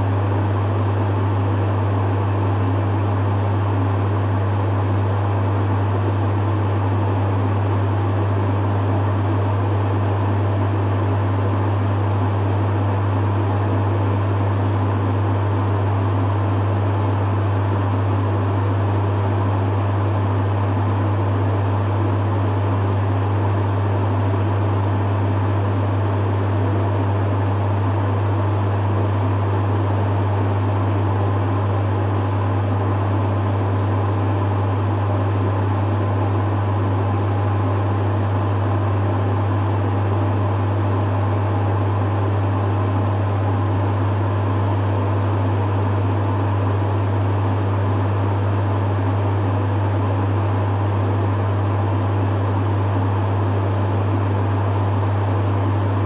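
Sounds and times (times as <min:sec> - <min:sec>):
dehumidifier running: 0:00.0 - 0:56.0.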